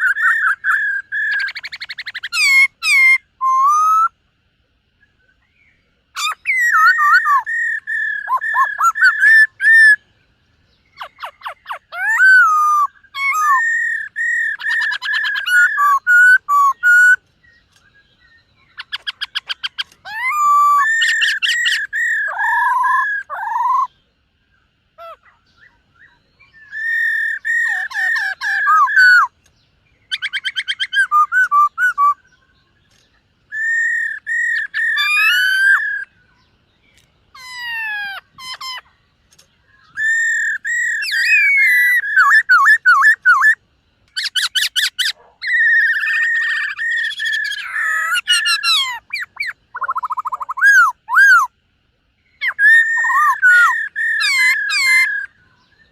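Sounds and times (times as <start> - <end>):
bird singing whistled notes and trills: 0.0 - 55.9.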